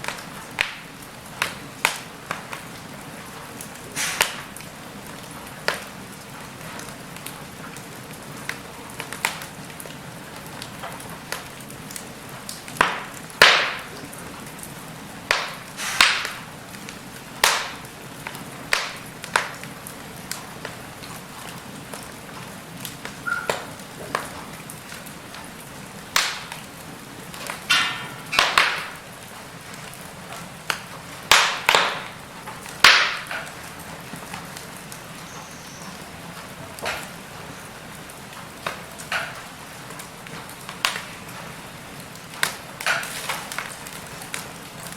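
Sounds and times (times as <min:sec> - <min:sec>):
fire hissing: 0:00.0 - 0:44.9
wood crackling and popping: 0:00.0 - 0:44.9.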